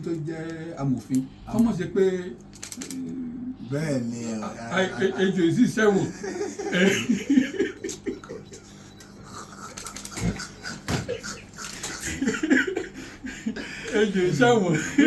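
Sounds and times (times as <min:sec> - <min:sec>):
people talking indistinctly: 0:00.0 - 0:12.4.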